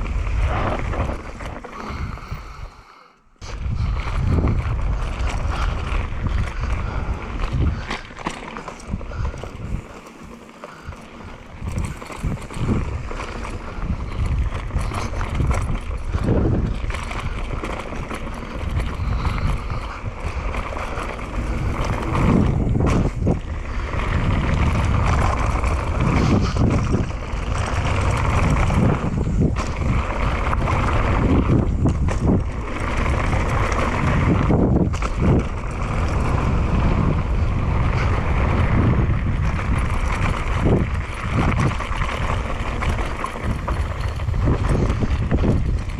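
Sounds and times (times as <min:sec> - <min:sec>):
bike rattling over bumps: 0:00.0 - 0:02.7, 0:03.4 - 0:45.9
bike tyres rumbling on dirt: 0:00.0 - 0:45.9
wind buffeting microphone: 0:00.0 - 0:45.9.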